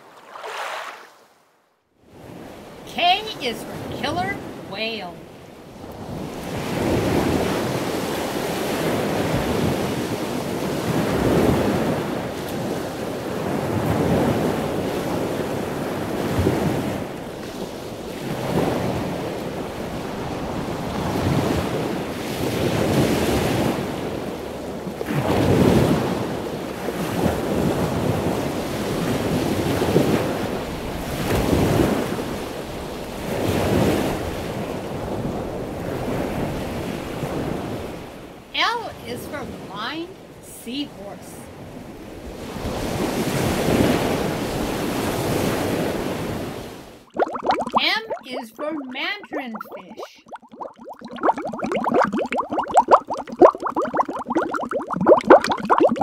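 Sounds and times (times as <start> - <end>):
ocean waves rushing: 0.3 - 1.1, 2.2 - 38.7, 40.9 - 56.0.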